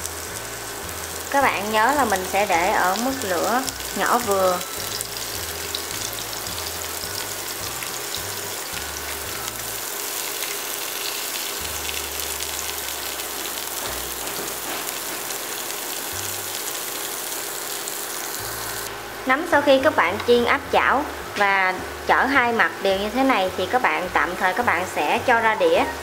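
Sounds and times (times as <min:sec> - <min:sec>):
mushrooms sizzling in oil: 0:00.0 - 0:25.9.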